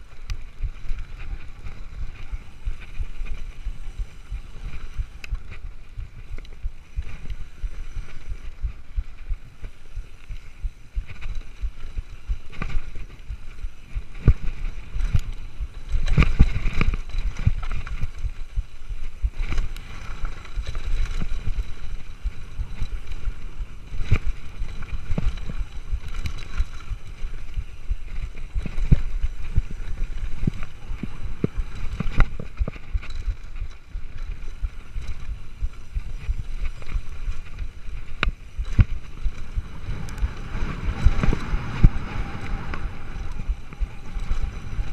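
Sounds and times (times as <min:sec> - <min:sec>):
bike knocks and rattles: 0:00.0 - 0:44.9
bike tyres rumbling on dirt: 0:00.0 - 0:44.9
wind on microphone: 0:00.0 - 0:44.9.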